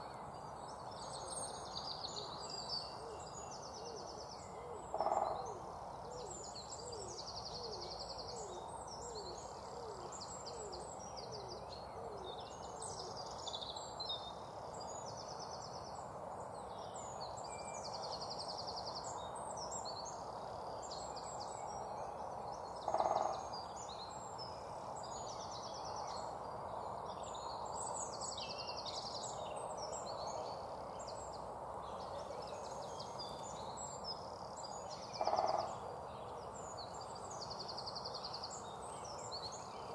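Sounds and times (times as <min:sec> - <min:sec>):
outdoor ambience: 0:00.0 - 0:39.9.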